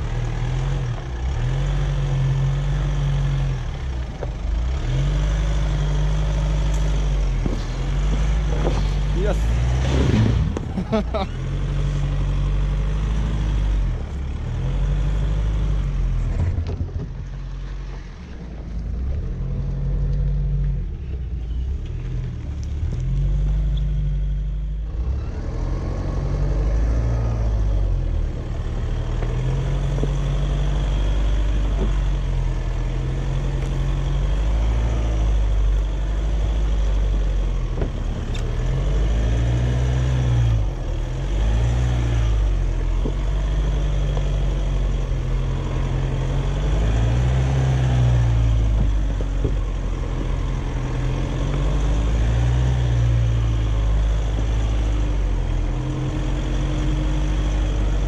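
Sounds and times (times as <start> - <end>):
jeep engine revving: 0.0 - 16.6, 22.6 - 58.0.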